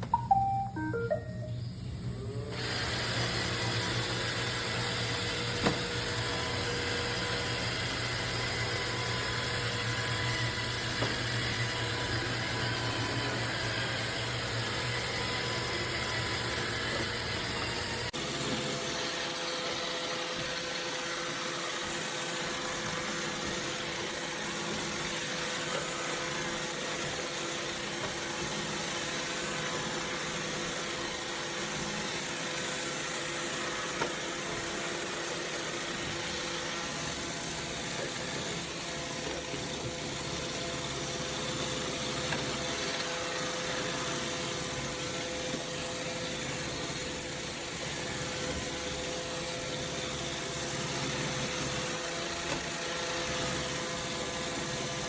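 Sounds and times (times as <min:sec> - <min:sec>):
robot vacuum motor whirring: 0:02.2 - 0:55.0.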